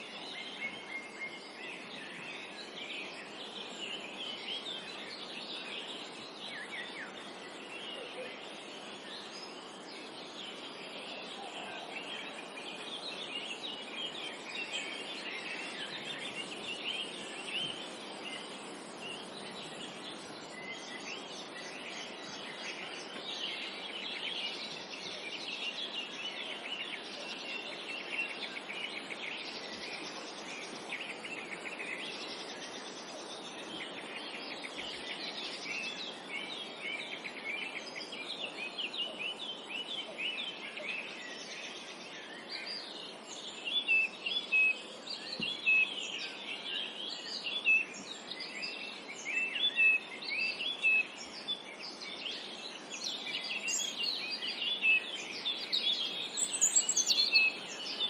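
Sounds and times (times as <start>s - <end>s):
steady background hiss: 0.0s - 58.0s
birds chirping and singing: 0.4s - 58.0s.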